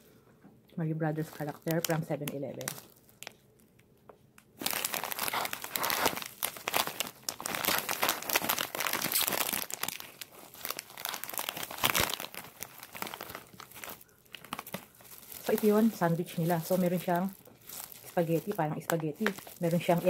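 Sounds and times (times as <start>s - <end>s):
plastic wrapper crackling: 1.1s - 3.8s, 4.5s - 20.0s.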